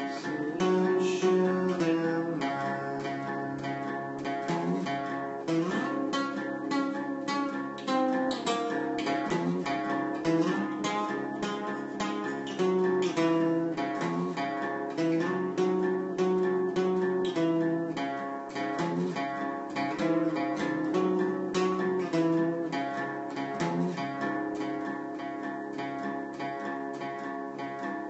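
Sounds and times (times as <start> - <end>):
acoustic guitar: 0.0 - 28.0.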